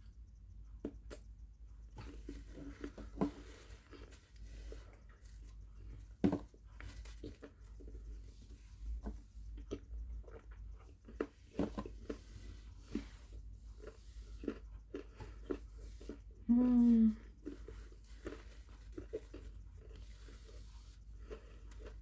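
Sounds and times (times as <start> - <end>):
person chewing chocolate bar: 0.0 - 22.0.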